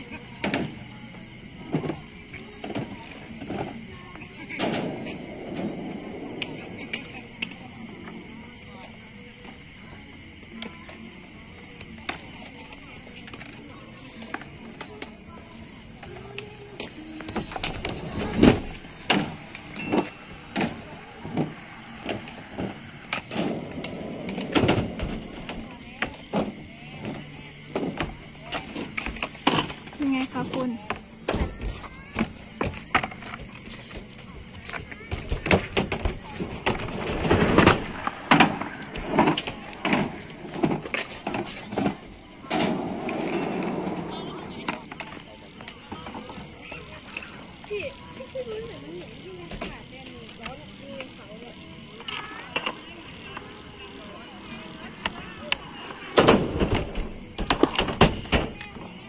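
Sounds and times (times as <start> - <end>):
people's voices: 0.0 - 59.0
skate wheels rolling on concrete: 0.0 - 59.0.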